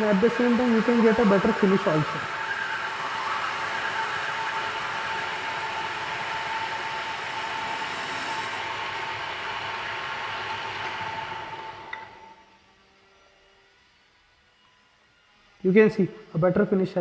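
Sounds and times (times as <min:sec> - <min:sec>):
cutting tool hiss: 0:00.0 - 0:14.4
lathe running with whine: 0:00.0 - 0:16.7.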